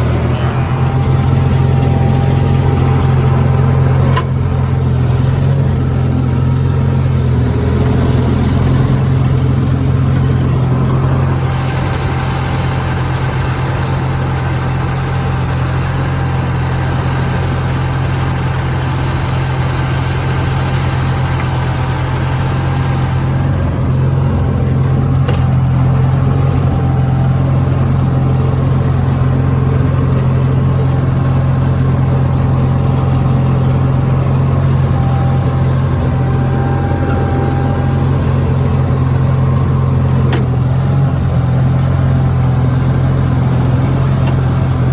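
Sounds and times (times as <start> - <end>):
garden tractor engine running: 0.0 - 44.9.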